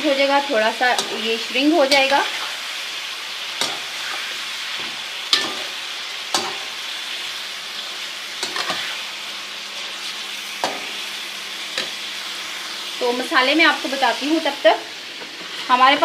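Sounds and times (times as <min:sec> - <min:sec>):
chicken sizzling in fat: 0:00.0 - 0:16.0.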